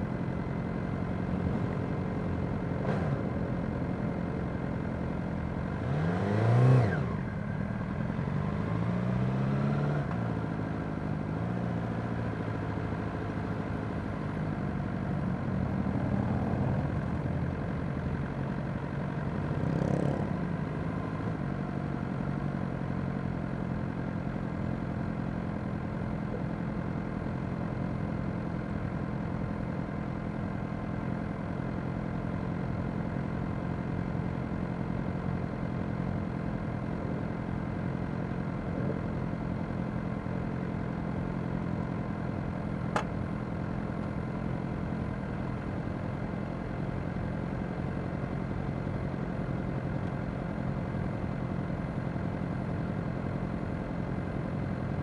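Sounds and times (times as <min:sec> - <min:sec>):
motorcycle engines idling: 0:10.3 - 0:55.0.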